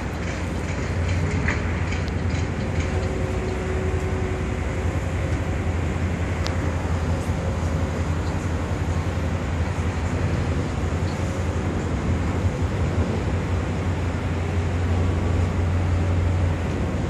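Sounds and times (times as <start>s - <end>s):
ferry engines droning: 0.0s - 17.0s.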